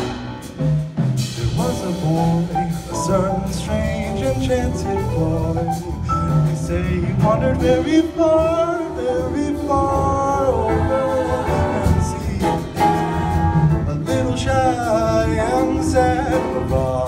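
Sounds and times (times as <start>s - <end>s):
vocal ensemble singing in harmony: 1.4s - 17.0s.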